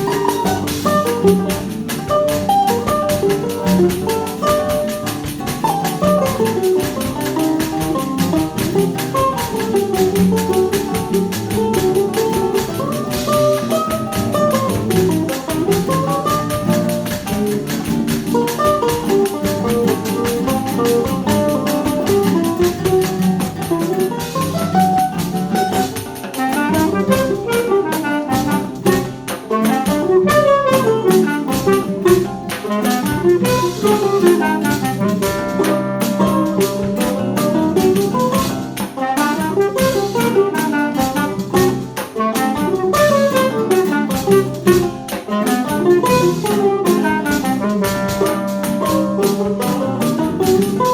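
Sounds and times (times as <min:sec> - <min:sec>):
light percussion: 0:00.0 - 0:50.9
plucked string accompaniment: 0:00.0 - 0:50.9
quick string melody: 0:00.0 - 0:50.9.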